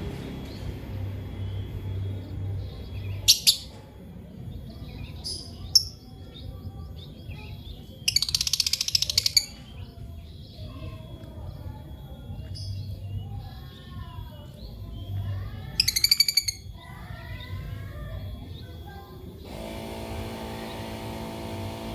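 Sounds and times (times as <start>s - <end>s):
lovebirds chirping: 0.0s - 19.6s.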